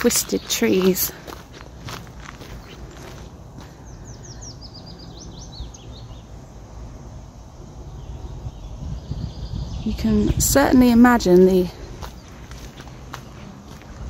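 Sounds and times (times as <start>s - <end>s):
low outdoor rumble: 0.0s - 14.0s
songbird singing: 0.0s - 14.0s.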